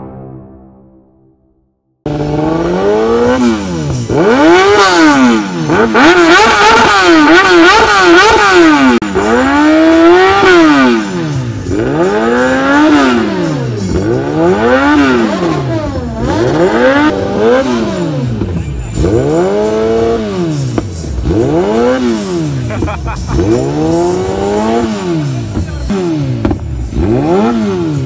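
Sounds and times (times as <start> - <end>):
motorcycle engine revving: 2.0 - 28.0.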